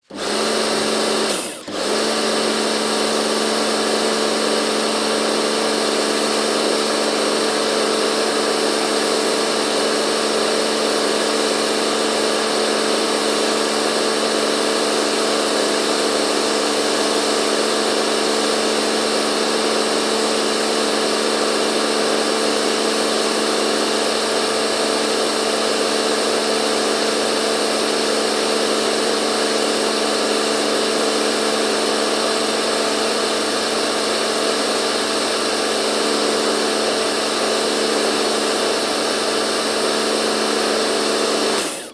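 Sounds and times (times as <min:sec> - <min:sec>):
pressure washer pump hum: 0:00.0 - 0:41.9.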